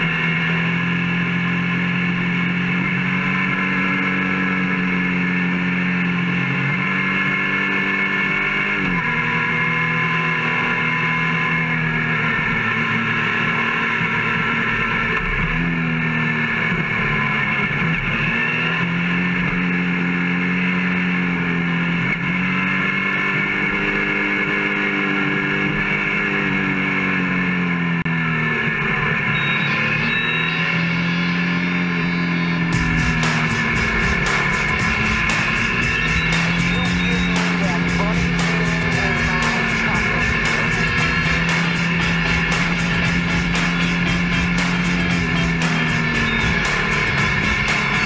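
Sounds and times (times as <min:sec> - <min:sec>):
motorcycle engine cruising: 0:00.0 - 0:48.0.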